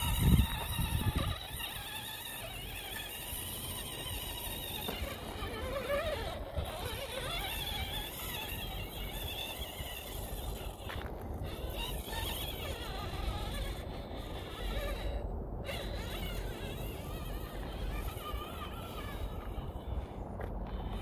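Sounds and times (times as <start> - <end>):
electric motor and gears whining: 0.0 - 21.0.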